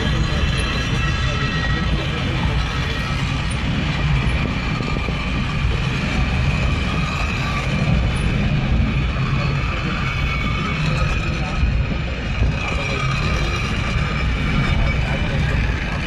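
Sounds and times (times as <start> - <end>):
railway wheels rumbling on rails: 0.0 - 16.0.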